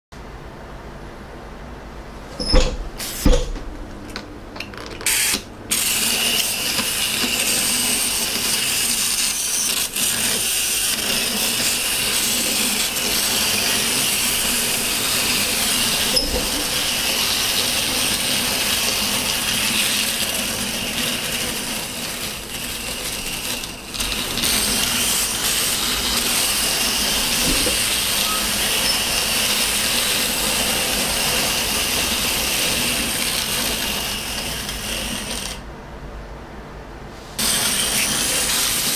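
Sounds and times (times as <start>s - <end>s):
toy trains clicking onto track: 5.0s - 35.6s, 37.4s - 38.9s
clockwork toy trains whirring: 5.0s - 35.7s, 37.4s - 38.9s.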